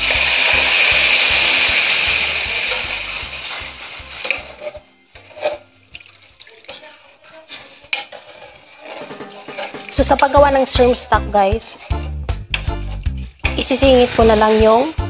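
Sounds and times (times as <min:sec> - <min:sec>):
liquid sizzling in hot pan: 0:00.0 - 0:15.0.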